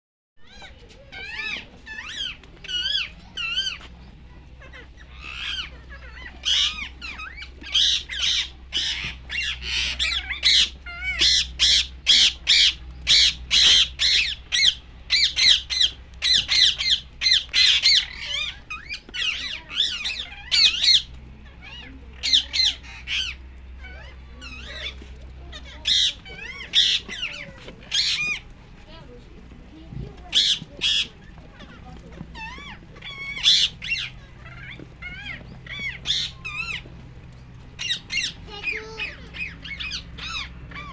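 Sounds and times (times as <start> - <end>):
bird squawking: 0.4 - 40.9
steady low hum: 0.4 - 40.9.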